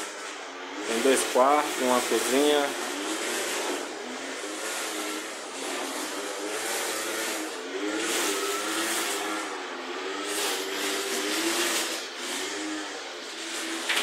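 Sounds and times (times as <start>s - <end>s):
brush cutter engine running: 0.1s - 14.0s.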